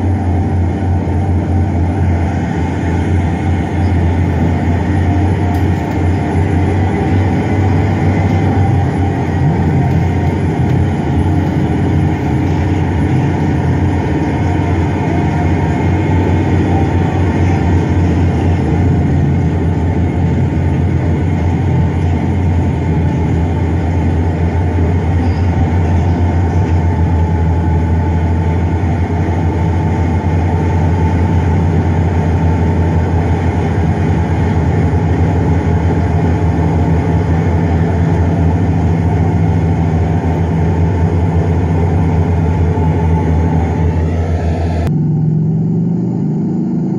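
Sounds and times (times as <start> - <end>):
bulldozer diesel engine droning: 0.0 - 46.9.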